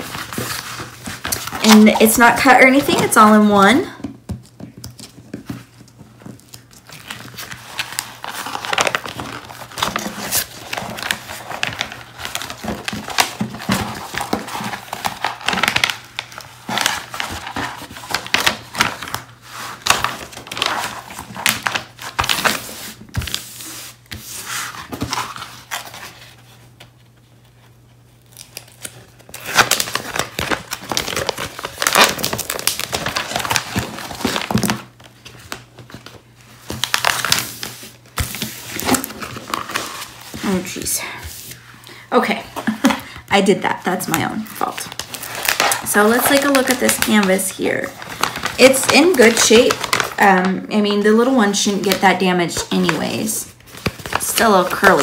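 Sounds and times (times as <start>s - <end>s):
plastic and paper crinkling: 0.0s - 55.0s.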